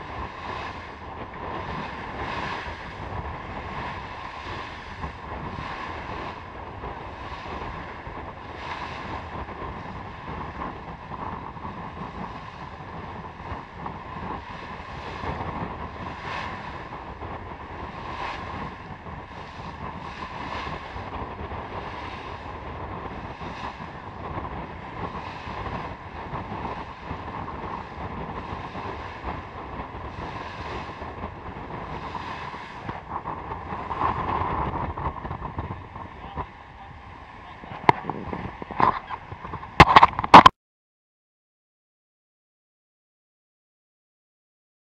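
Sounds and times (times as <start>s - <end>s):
waves swishing past hull: 0.0s - 40.5s
wind buffeting microphone: 0.0s - 40.5s.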